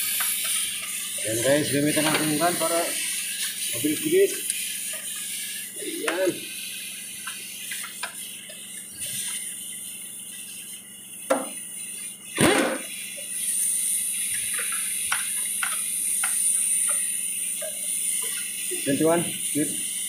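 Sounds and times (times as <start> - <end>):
steady high hiss: 0.0 - 9.4, 10.5 - 19.9.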